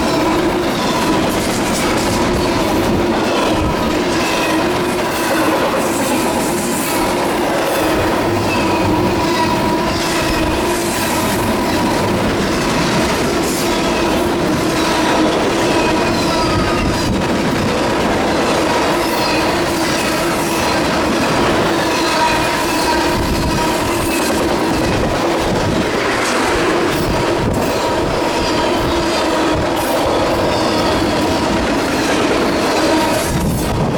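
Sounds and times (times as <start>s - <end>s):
train wheels clacking over rails: 0.0s - 33.9s
wind buffeting: 0.0s - 33.9s.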